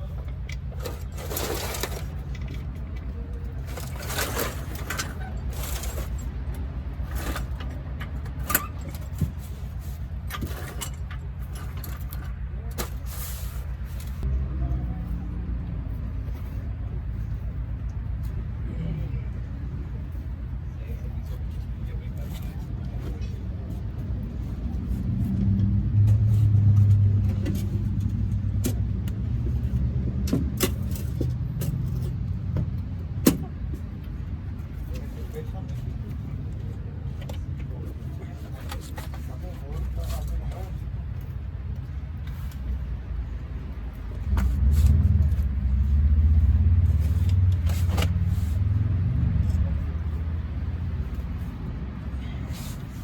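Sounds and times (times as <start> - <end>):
motor vehicle rumble: 0.0 - 53.0.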